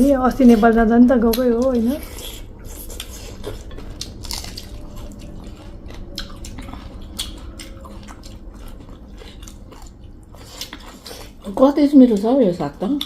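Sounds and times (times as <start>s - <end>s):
person chewing food: 0.5s - 11.6s.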